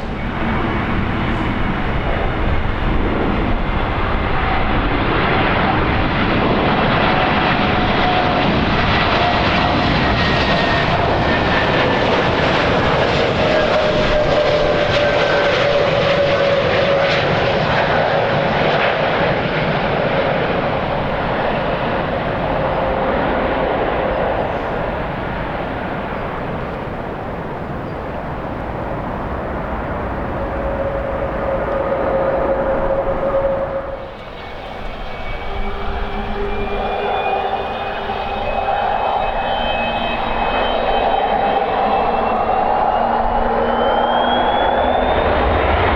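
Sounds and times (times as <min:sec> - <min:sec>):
jet engines roaring and whining: 0:00.0 - 0:45.9.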